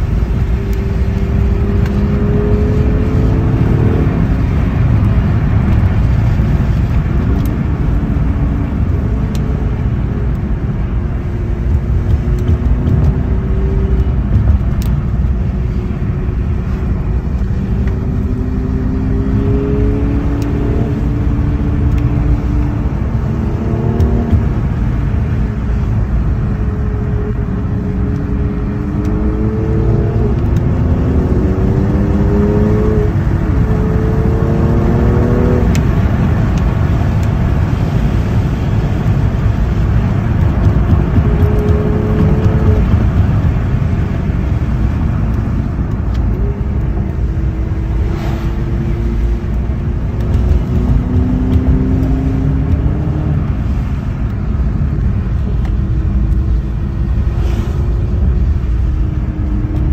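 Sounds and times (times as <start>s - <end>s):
car engine accelerating: 0.0s - 59.9s
tyres rumbling on wet pavement: 0.0s - 59.9s.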